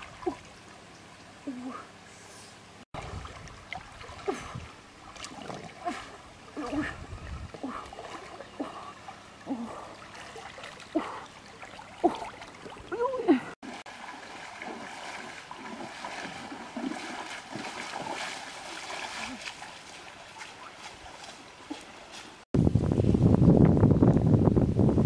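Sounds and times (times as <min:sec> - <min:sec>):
water splashing from swimming: 0:00.0 - 0:00.9, 0:02.9 - 0:22.5
wading through shallows: 0:00.0 - 0:22.5.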